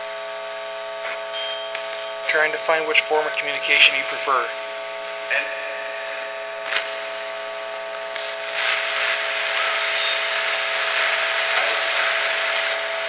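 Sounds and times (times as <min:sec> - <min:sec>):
faint hum: 0:00.0 - 0:13.0
radio static hiss: 0:00.0 - 0:13.0.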